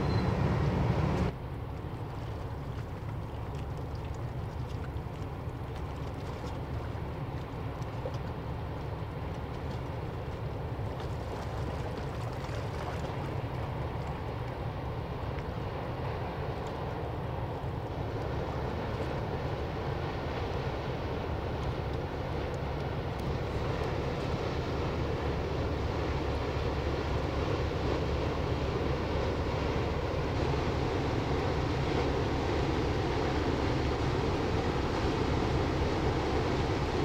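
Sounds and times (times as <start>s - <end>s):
ship engine rumble: 0.0s - 37.0s.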